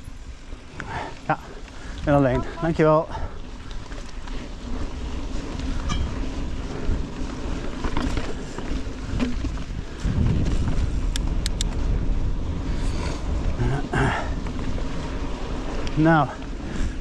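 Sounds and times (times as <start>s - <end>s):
bike clicks and rattles: 0.0s - 17.0s
tyres rumbling on dirt: 0.0s - 17.0s
wind buffeting microphone: 0.0s - 17.0s.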